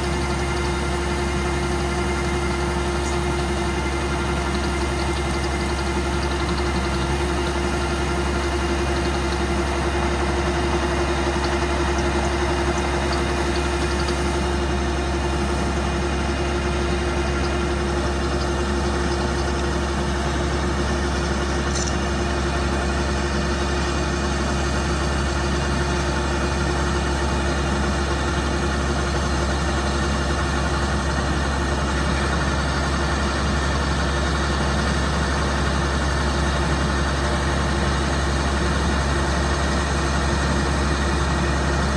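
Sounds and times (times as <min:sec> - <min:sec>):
combine harvester engine drone: 0:00.0 - 0:41.9.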